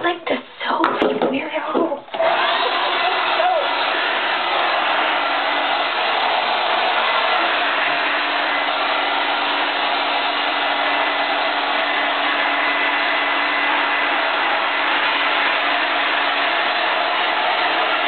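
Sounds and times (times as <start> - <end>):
hair dryer running: 2.1 - 18.0.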